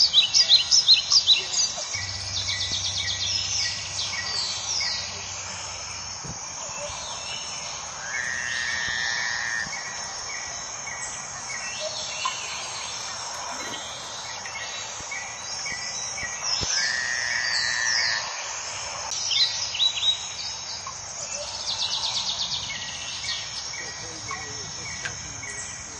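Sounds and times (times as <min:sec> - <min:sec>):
background hiss: 0:00.0 - 0:25.9
birds singing: 0:00.0 - 0:25.9.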